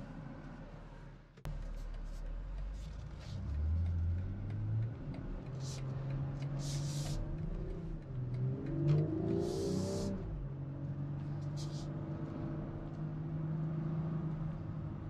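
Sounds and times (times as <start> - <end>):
car engine accelerating: 1.5 - 15.0.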